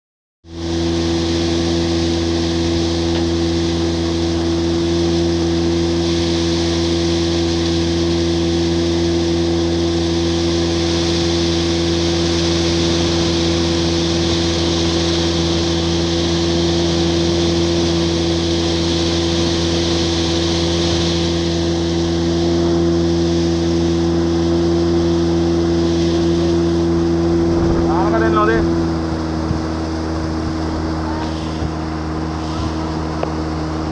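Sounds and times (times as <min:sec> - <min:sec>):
boat engine droning: 0:00.5 - 0:33.9.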